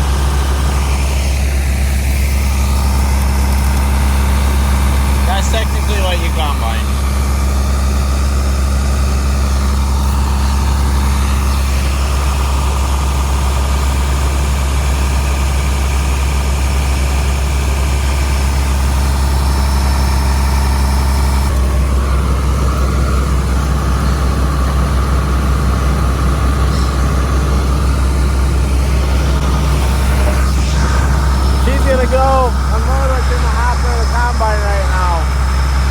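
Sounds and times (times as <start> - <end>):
farm machine engine running: 0.0 - 35.9.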